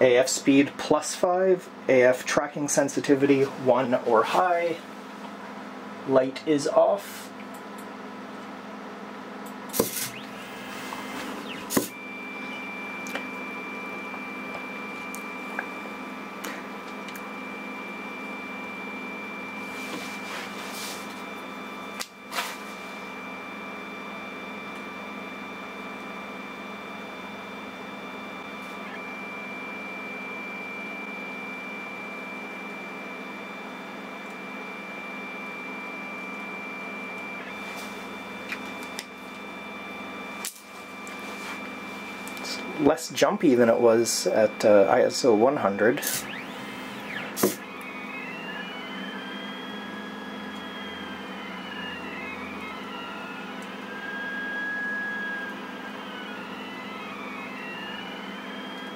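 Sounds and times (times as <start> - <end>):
stepper motors whining: 9.7 - 58.9.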